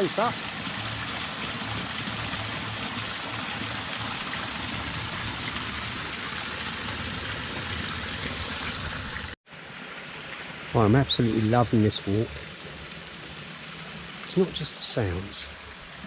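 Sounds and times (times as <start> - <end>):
small waterfall rushing: 0.0 - 16.0.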